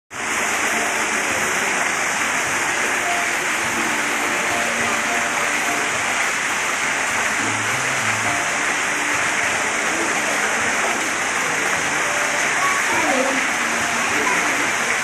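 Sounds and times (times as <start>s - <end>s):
small waterfall splashing into pool: 0.1s - 15.0s.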